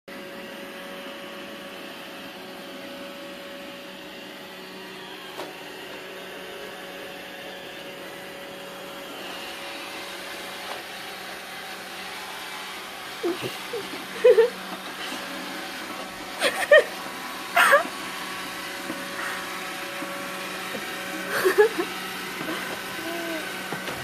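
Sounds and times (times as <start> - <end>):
robot vacuum whirring: 0.2 - 24.0.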